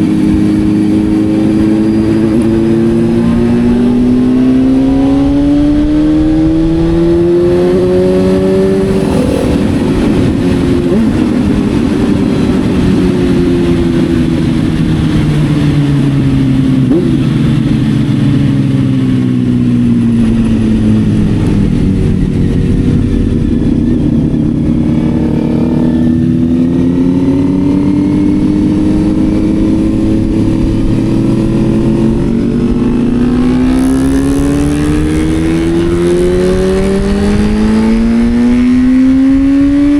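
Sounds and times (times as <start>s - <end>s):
motorcycle engine at speed: 0.0s - 39.9s
wind and road noise: 0.0s - 39.9s.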